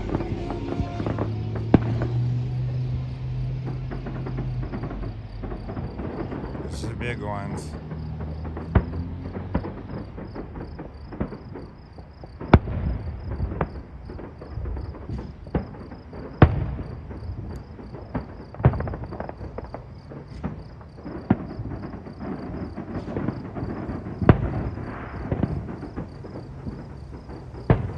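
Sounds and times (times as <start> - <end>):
fireworks booming: 0.0 - 27.9
fireworks crackling: 0.0 - 27.9
insects chirping: 0.0 - 27.9.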